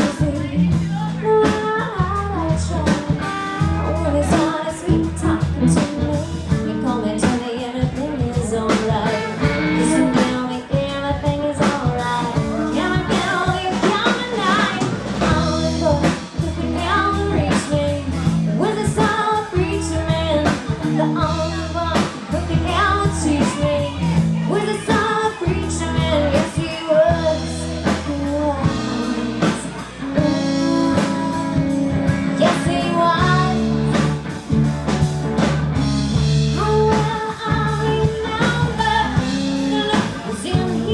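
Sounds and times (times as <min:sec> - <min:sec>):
person singing: 0:00.0 - 0:34.2, 0:36.5 - 0:40.9
bass guitar: 0:00.0 - 0:40.9
drum kit: 0:00.0 - 0:40.9
electric guitar: 0:00.0 - 0:40.9.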